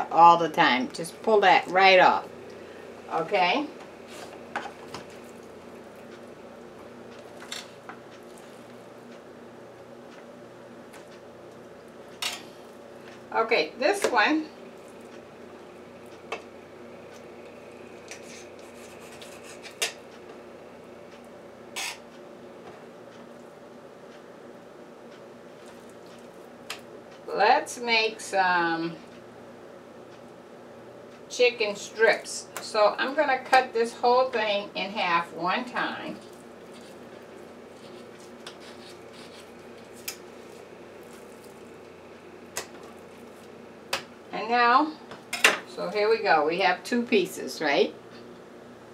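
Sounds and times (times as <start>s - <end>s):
faint steady hum: 0.0s - 48.9s.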